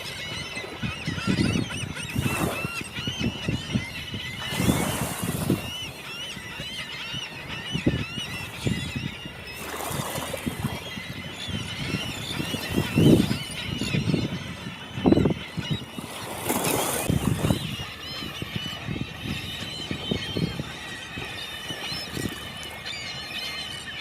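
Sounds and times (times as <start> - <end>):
chorus of bird calls: 0.0 - 24.0.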